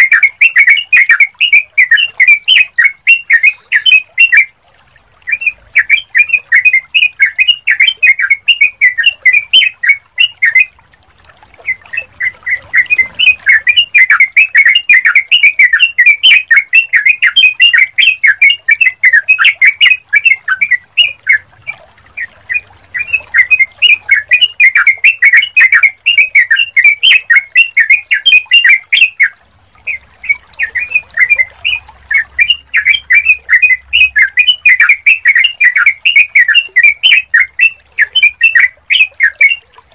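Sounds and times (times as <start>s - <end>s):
bulbul chattering call: 0.0s - 4.4s, 5.3s - 10.7s, 11.6s - 39.6s.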